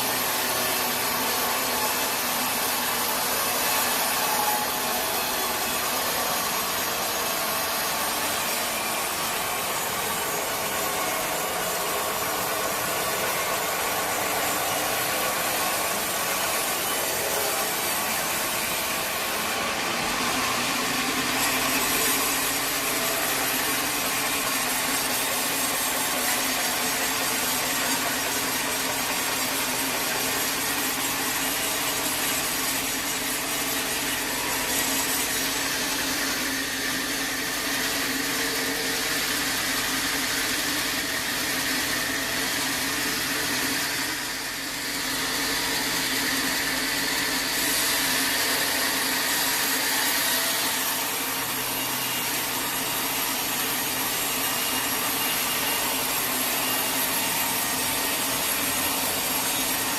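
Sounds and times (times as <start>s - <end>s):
constant machine hum: 0.0s - 59.9s
saw blade cutting through log: 0.0s - 59.9s.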